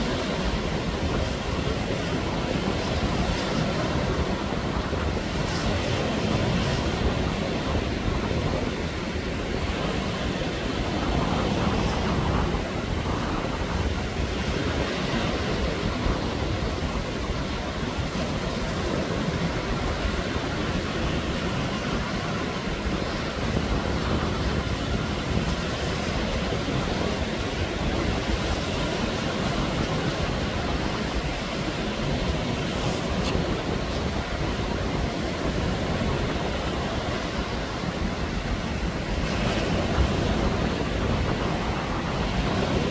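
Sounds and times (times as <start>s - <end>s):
small waves breaking on sand: 0.0s - 42.9s
wind buffeting microphone: 0.0s - 42.9s.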